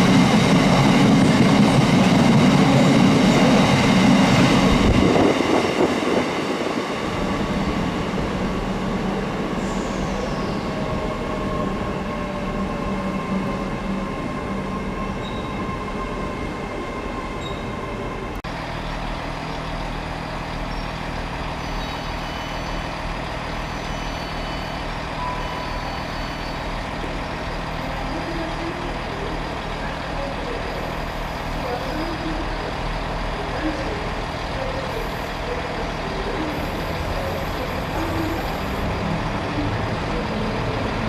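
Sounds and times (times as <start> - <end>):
diesel locomotive engine hum: 0.0 - 41.0.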